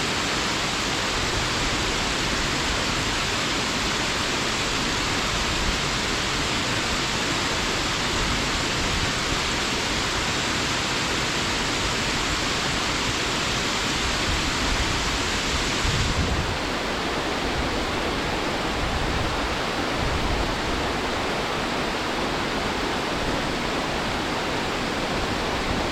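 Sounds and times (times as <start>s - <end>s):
waterfall rushing: 0.0s - 25.9s.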